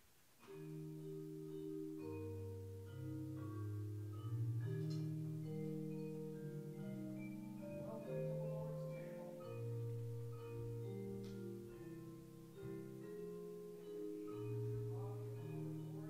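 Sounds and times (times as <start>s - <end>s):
slow church keyboard chords: 0.0s - 16.0s.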